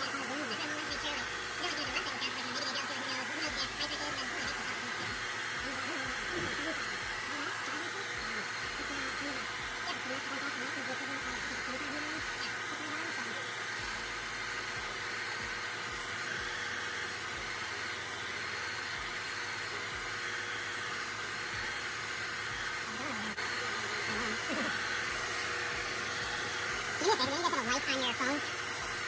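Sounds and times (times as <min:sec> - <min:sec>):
hot-air blower running: 0:00.0 - 0:29.0.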